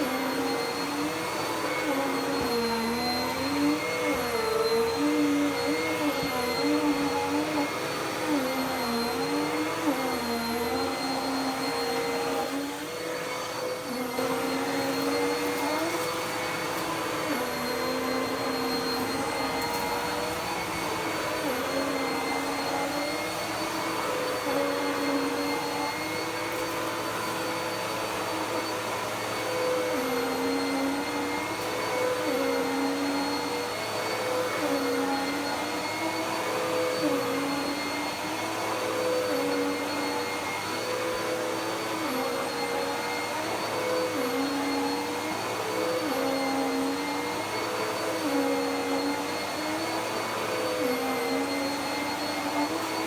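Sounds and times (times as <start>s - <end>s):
vacuum cleaner motor whine: 0.0s - 53.0s.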